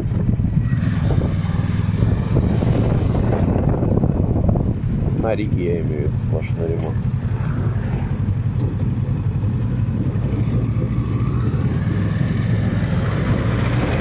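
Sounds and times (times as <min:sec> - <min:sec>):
motorcycle engine droning: 0:00.0 - 0:14.0
road and wind noise: 0:00.0 - 0:14.0.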